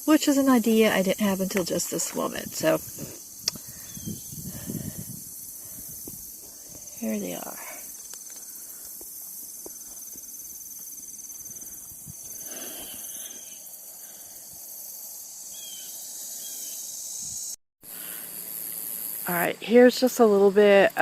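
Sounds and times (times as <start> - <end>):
high-pitched insect trill: 0.0 - 21.0.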